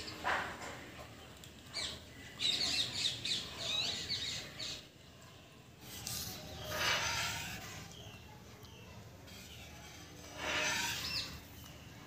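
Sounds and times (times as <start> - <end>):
birds chirping and chattering: 0.0 - 12.0.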